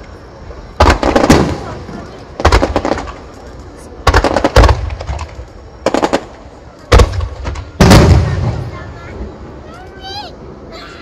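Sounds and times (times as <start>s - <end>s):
fireworks bangs: 0.0s - 10.2s.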